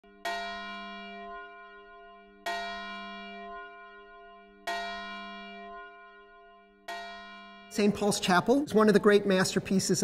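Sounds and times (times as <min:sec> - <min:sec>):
church bell tolling: 0:00.0 - 0:09.7.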